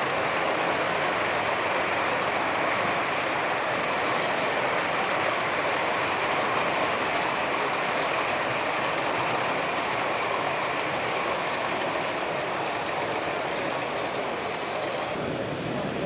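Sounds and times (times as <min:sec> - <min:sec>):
model train rolling on track: 0:00.0 - 0:15.2.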